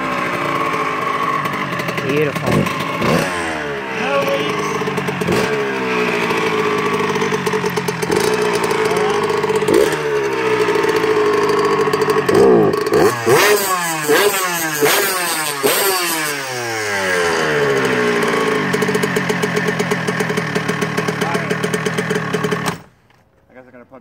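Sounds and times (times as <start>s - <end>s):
two-stroke engine revving and idling: 0.0s - 23.0s.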